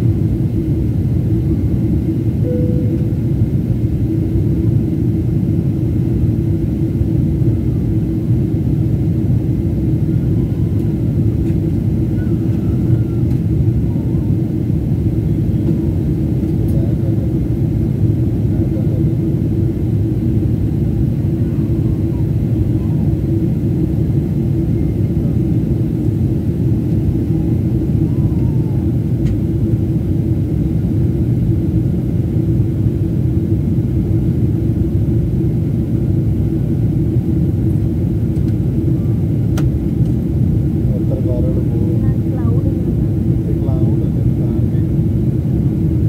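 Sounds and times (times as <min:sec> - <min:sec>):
airliner cabin rumble: 0:00.0 - 0:46.0.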